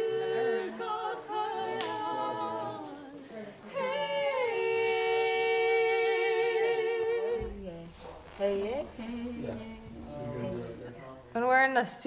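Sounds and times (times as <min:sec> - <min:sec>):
voices singing unaccompanied: 0:00.0 - 0:11.2.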